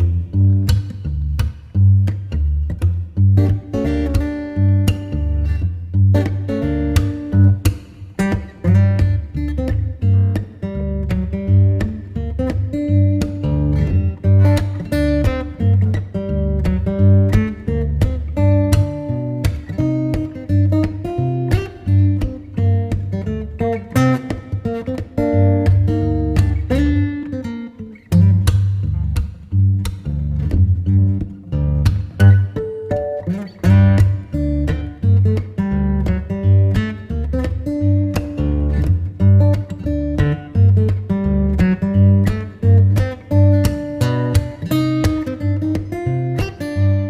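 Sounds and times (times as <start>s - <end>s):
bass line: 0.0s - 7.7s, 8.3s - 27.2s, 28.1s - 45.2s
acoustic guitar music: 0.0s - 47.0s.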